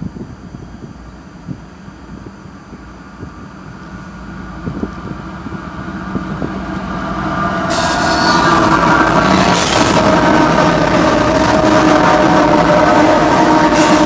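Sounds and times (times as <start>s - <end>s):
diesel locomotive engine: 0.0s - 14.0s
wheel and rail noise: 0.2s - 14.0s.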